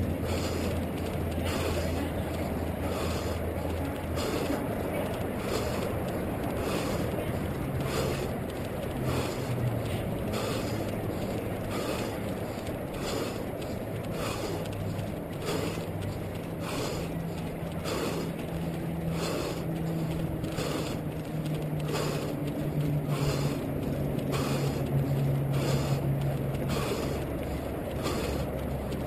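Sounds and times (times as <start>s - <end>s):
faint low drone: 0.0s - 29.0s
road noise: 0.0s - 29.0s
runner's footsteps: 0.0s - 29.0s.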